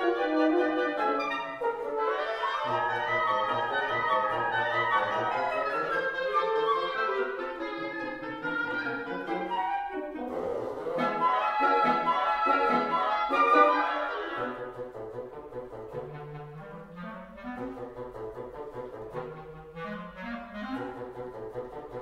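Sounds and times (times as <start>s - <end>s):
wind quintet playing: 0.0s - 22.0s.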